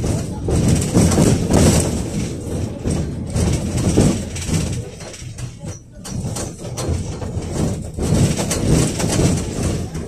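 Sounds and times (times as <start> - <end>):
knocks and rattles: 0.0 - 10.0
tram rumbling along rails: 0.0 - 10.0.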